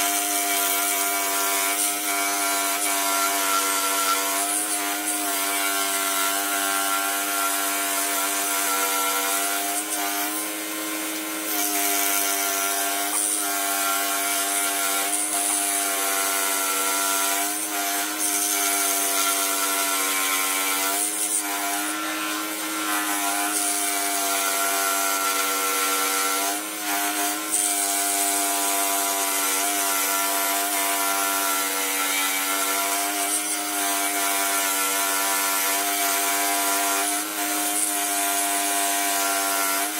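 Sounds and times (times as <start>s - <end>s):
saw cutting wood: 0.0s - 39.9s
scroll saw buzzing: 0.0s - 39.9s.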